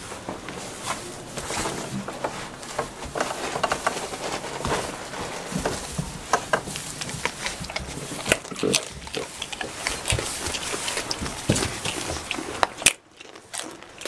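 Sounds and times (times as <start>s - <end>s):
goats rustling in straw: 0.0s - 12.7s
hooves knocking on wooden boards: 1.4s - 12.8s.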